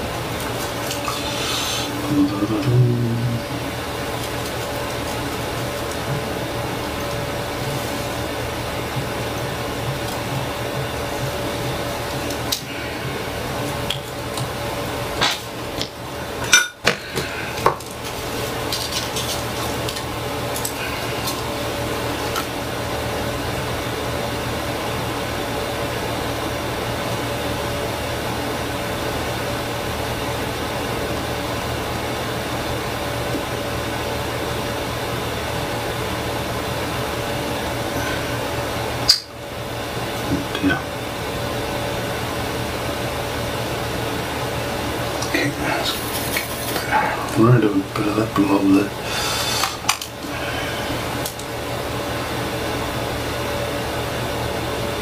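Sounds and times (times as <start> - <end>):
constant hum: 0.0 - 55.0.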